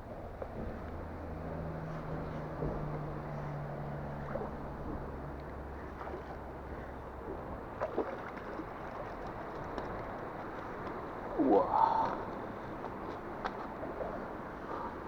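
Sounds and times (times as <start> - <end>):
low engine hum: 0.0 - 15.0
water: 0.0 - 15.0
wind: 0.0 - 15.0.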